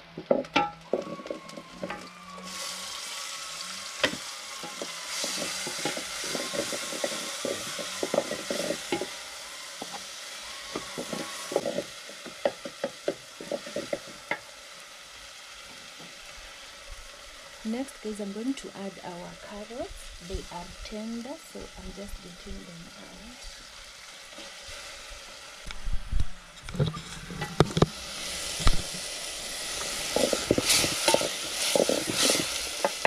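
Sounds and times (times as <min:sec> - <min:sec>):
vegetables sizzling in pan: 0:00.0 - 0:33.0.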